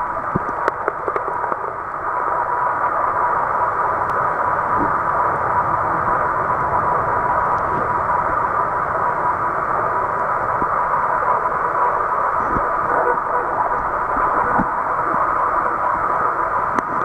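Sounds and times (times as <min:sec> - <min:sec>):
faint steady tone: 0:00.0 - 0:17.0
muffled rushing water: 0:00.0 - 0:17.0.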